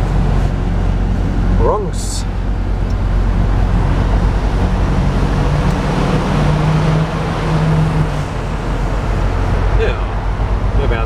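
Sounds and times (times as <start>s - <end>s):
road and tyre noise: 0.0s - 11.0s
truck engine droning: 0.0s - 11.0s.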